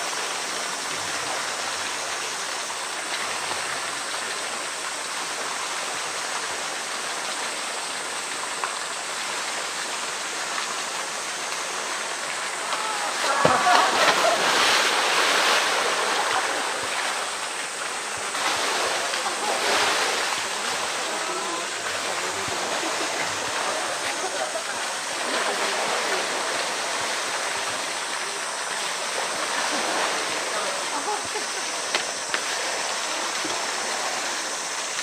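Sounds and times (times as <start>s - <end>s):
running water rushing: 0.0s - 35.0s
water splashing and sloshing: 0.0s - 35.0s.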